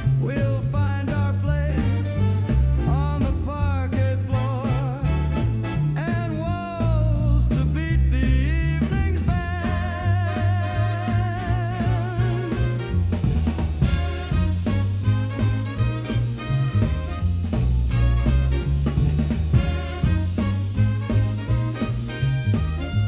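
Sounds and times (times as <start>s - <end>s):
swing dance band music: 0.0s - 23.0s.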